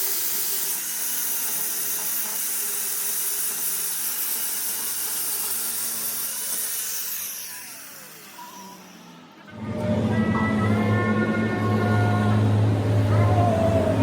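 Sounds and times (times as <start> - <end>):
power tool running and winding down: 0.0 - 14.0.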